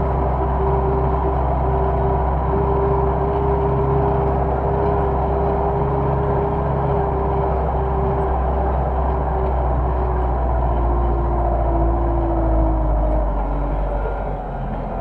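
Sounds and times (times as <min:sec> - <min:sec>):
tractor diesel engine rumbling: 0:00.0 - 0:15.0.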